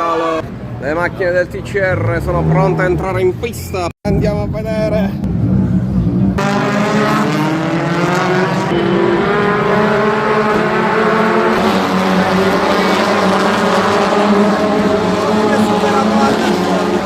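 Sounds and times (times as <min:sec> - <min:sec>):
race car engines passing: 0:00.0 - 0:03.6, 0:04.8 - 0:17.0.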